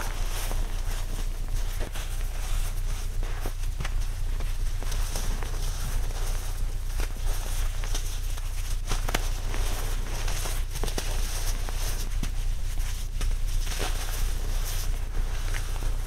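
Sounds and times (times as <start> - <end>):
baking soda crunching and crackling: 0.0 - 16.0
low hum: 0.0 - 16.0.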